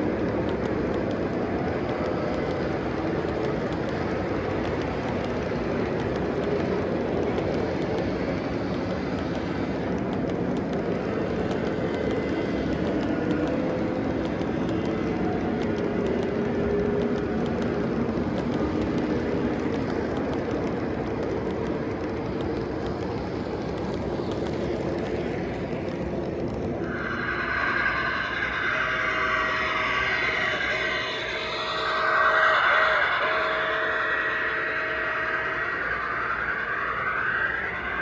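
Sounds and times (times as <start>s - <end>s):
faint hum: 0.0s - 38.0s
model train wheels rumbling: 0.0s - 38.0s.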